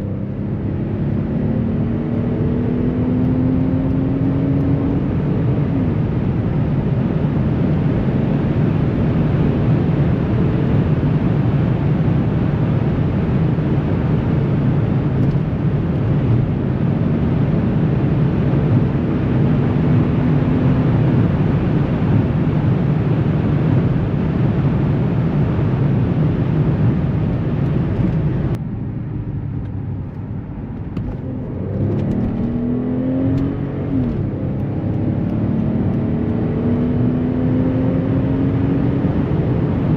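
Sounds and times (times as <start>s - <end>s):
car engine driving at speed: 0.0s - 39.9s
wind and tyre noise: 0.0s - 39.9s.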